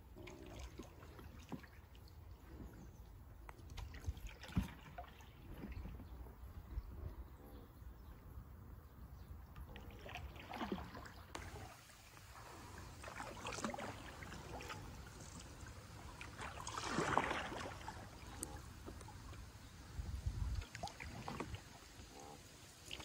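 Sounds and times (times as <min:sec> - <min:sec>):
kayak paddles splashing in water: 0:00.0 - 0:06.4, 0:09.6 - 0:23.0.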